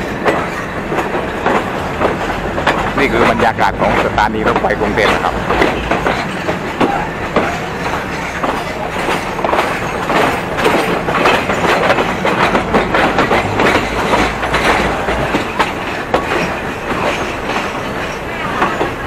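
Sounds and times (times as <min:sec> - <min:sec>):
train rumble: 0:00.0 - 0:19.0
train wheels clacking over joints: 0:00.0 - 0:19.0.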